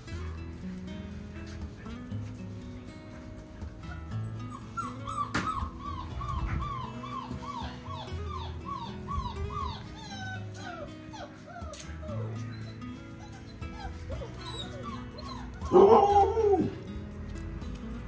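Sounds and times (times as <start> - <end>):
background music: 0.0 - 18.0
puppies whimpering: 1.6 - 17.5.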